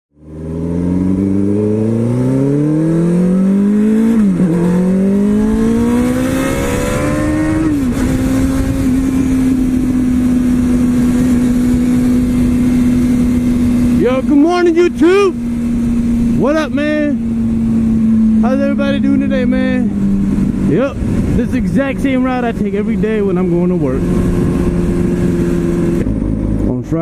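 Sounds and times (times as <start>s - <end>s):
motorcycle engine accelerating: 0.1s - 27.0s
wind and road noise: 0.1s - 27.0s.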